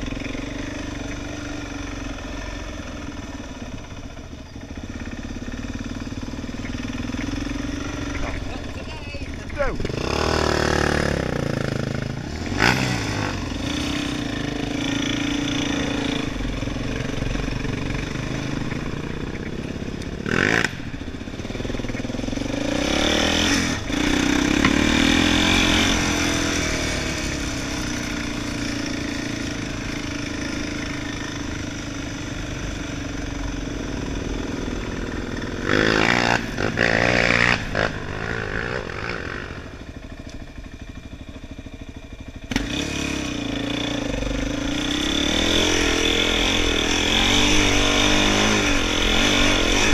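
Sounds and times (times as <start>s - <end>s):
quad bike engine revving: 0.0s - 49.9s.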